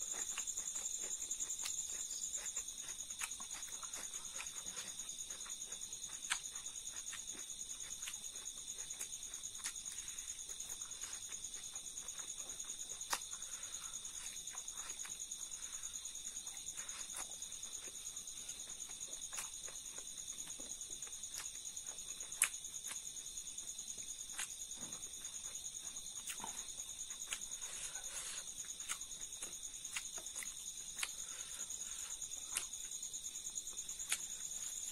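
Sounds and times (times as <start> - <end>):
insects chirring: 0.0 - 34.9
soft eating sounds: 0.0 - 34.9.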